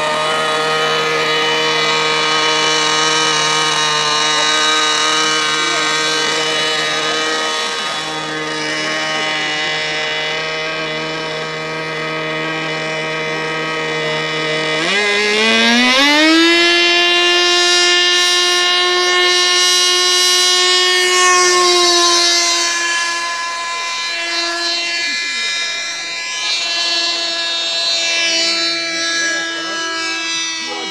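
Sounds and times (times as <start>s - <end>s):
model jet engine whine: 0.0s - 30.9s.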